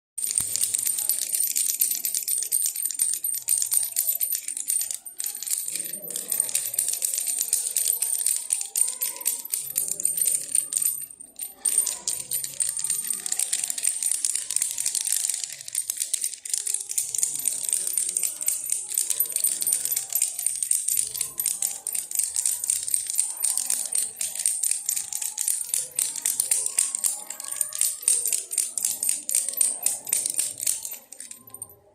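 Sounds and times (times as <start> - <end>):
baby rattle shaking: 0.2 - 31.9.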